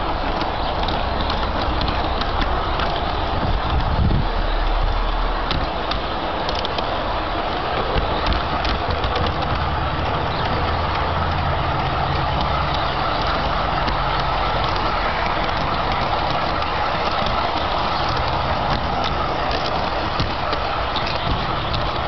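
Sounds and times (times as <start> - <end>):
model locomotive whirring: 0.0 - 22.0.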